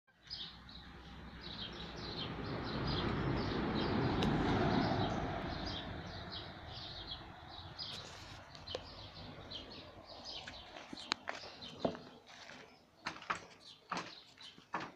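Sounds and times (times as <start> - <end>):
bird chirping: 0.1 - 14.8.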